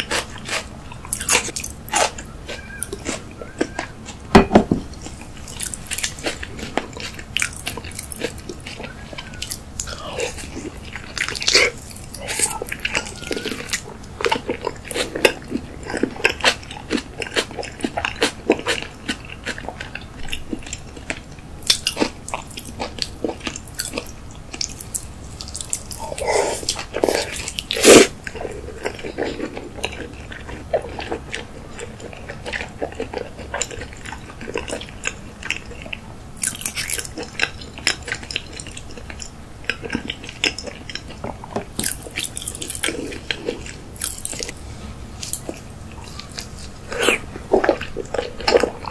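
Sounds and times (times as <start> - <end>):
wet chewing: 0.0 - 44.6, 45.2 - 48.9.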